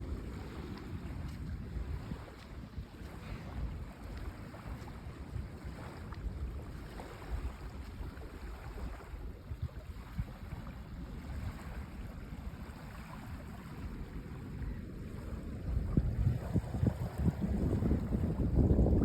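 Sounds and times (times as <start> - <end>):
waves washing on shore: 0.0 - 19.0
wind buffeting microphone: 0.0 - 19.0.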